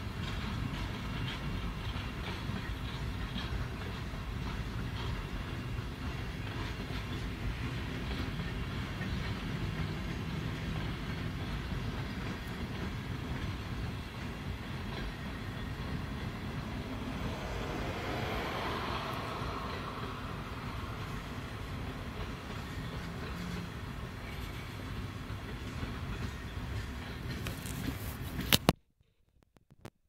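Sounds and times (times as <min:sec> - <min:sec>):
freight train rolling past: 0:00.0 - 0:28.6.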